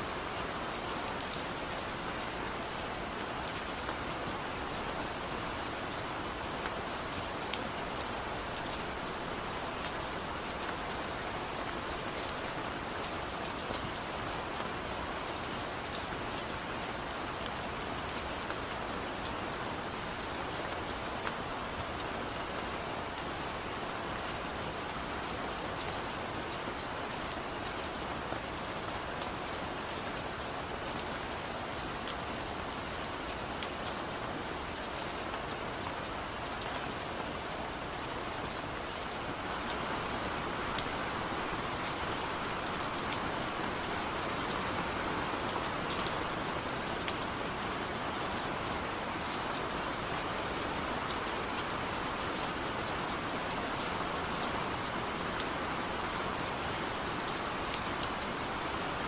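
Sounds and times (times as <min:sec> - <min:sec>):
steady rain with drop ticks: 0:00.0 - 0:59.0.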